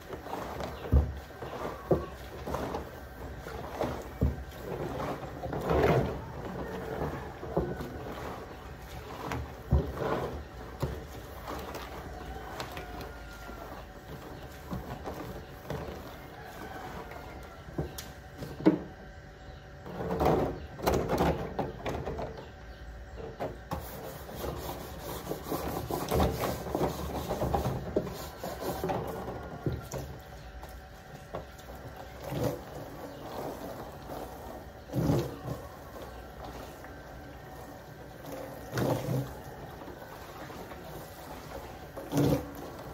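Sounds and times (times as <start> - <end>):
scrubbing on plastic drum: 0.0 - 19.0, 23.2 - 42.9.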